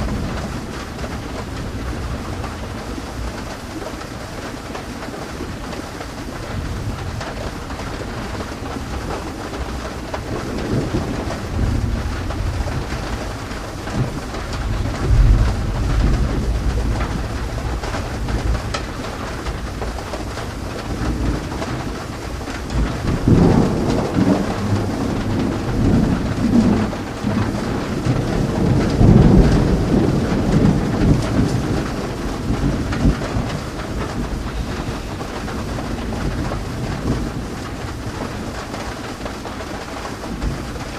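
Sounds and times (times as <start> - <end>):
steady rain falling: 0.0 - 40.9
thunder rumbling: 0.0 - 40.9.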